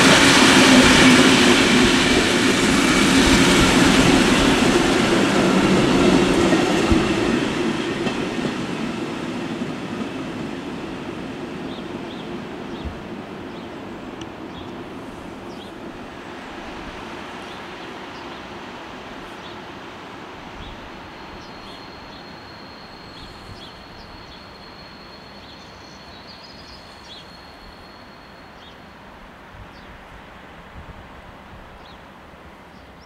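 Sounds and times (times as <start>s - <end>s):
passing train rolling: 0.0s - 33.0s.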